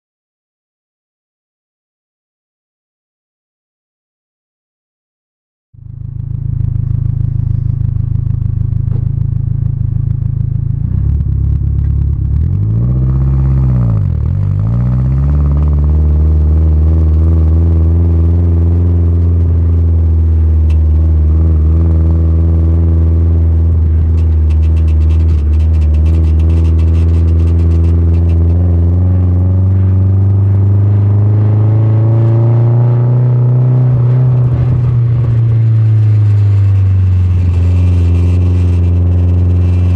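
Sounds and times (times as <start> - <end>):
car engine droning: 5.8 - 39.9.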